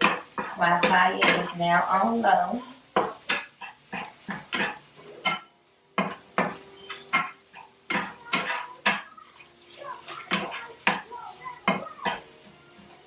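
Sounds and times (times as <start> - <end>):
utensil scraping frying pan: 0.0 - 13.0.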